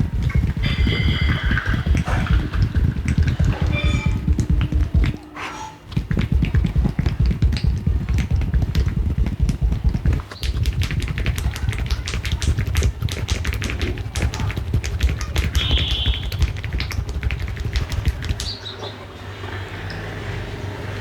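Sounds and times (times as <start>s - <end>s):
hands tapping and slapping body: 0.0s - 5.2s, 5.9s - 18.6s
low steady hum: 0.0s - 19.7s.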